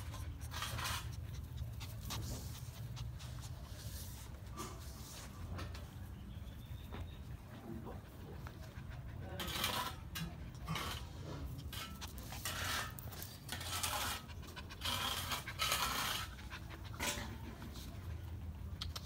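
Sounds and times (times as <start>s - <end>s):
dog panting: 0.0s - 4.4s, 7.2s - 10.7s, 11.4s - 18.8s.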